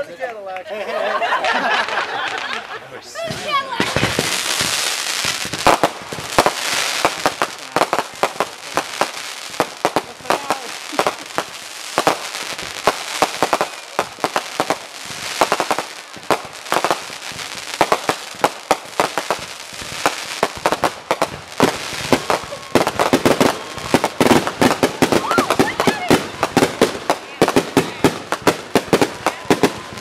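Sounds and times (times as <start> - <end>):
fireworks banging and crackling: 1.2 - 30.0.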